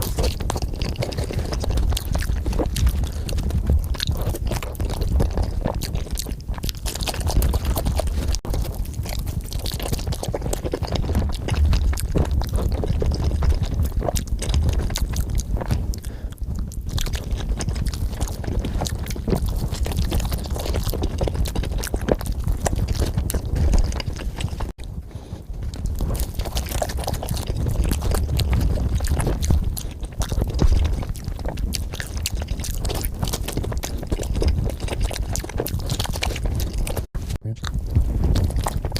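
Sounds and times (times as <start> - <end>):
chewing and biting pizza: 0.0 - 38.9.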